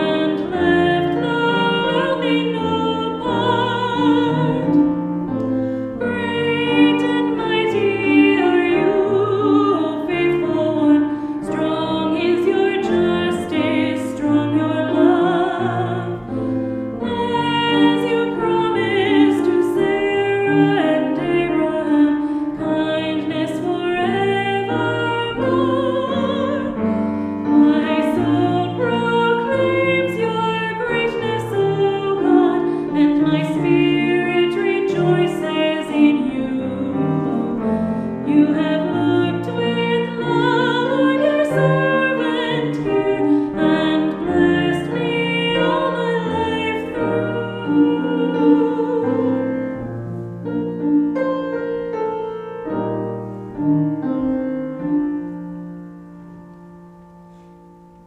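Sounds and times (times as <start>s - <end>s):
people singing with vibrato: 0.0s - 49.9s
piano accompaniment: 0.0s - 58.0s.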